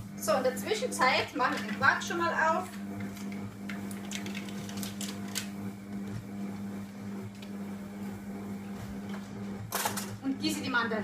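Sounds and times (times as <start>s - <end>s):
food processor humming: 0.0s - 11.0s.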